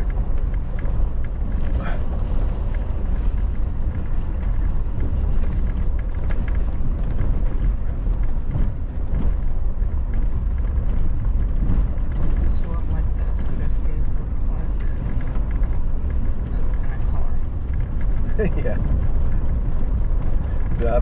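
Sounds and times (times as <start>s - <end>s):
vehicle driving on gravel: 0.0s - 21.0s.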